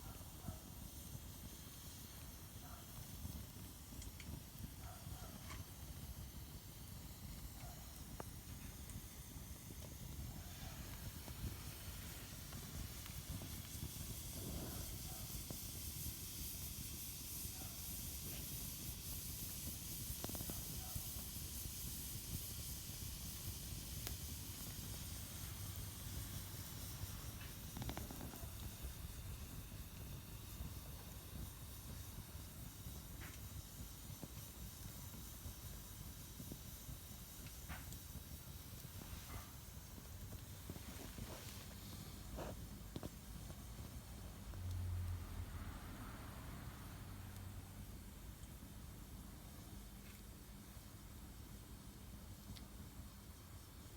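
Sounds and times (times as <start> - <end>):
fire crackles and pops: 0.0 - 53.9
hiss of flames: 0.0 - 53.9.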